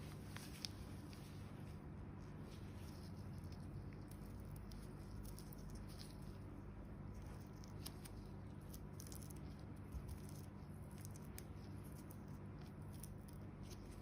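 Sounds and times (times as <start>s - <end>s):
crackles and rustles of dry skin: 0.0s - 14.0s
steady low hum: 0.0s - 14.0s.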